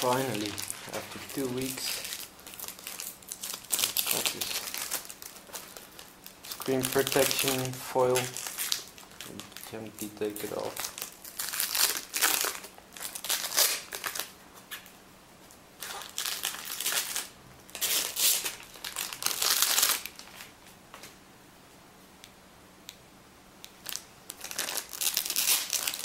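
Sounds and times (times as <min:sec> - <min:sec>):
plastic foil peeling and crinkling: 0:00.0 - 0:14.9, 0:15.8 - 0:20.5, 0:23.8 - 0:26.0.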